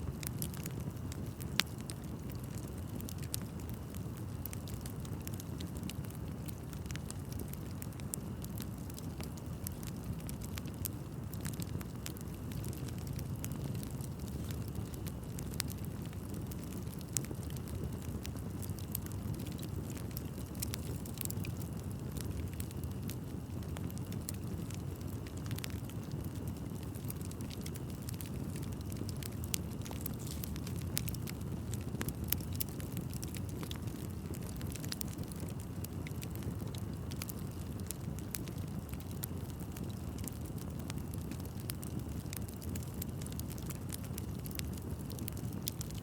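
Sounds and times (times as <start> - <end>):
burning wood crackling and popping: 0.0 - 46.0
rumble of bonfire flames: 0.0 - 46.0.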